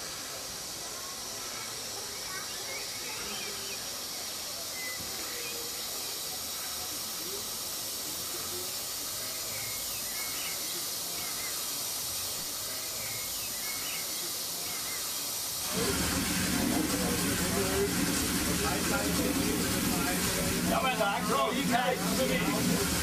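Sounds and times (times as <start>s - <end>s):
steam locomotive hissing steam: 0.0s - 23.0s.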